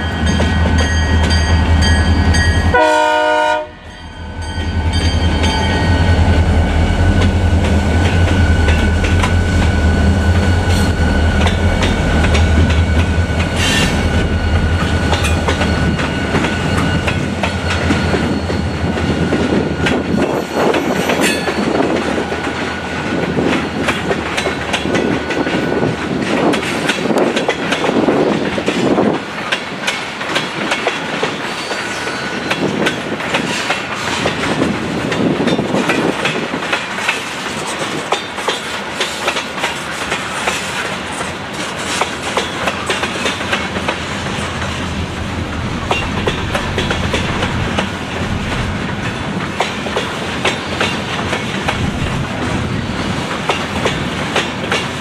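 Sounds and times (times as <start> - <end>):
diesel locomotive engine rumble: 0.0 - 31.4, 40.0 - 55.0
train wheels clickety-clack: 0.2 - 2.8, 5.0 - 55.0.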